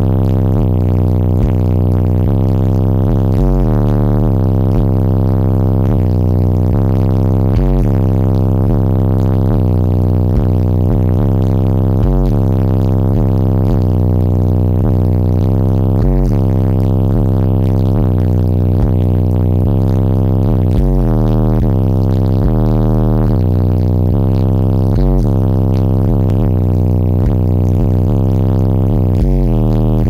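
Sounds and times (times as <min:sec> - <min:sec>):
bass-heavy music through car speakers: 0:00.0 - 0:30.0.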